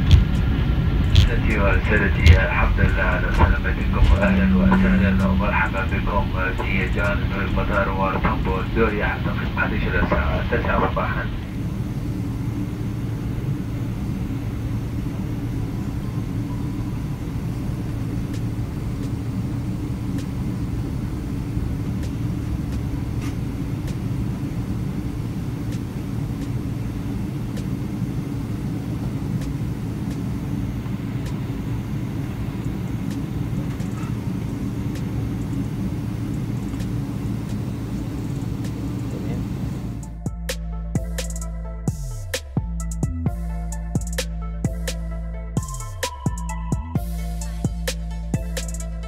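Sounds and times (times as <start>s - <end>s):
aircraft wheels rolling: 0.0s - 40.3s
jet engines humming: 0.0s - 49.0s.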